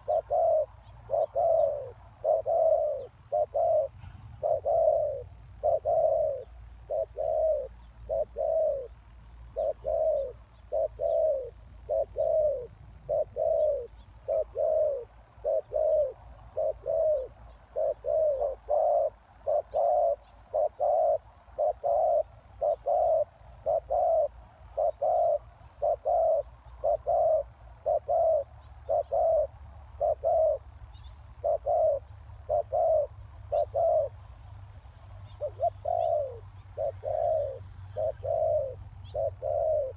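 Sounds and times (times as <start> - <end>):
dove cooing: 0.0 - 34.2, 35.2 - 39.9.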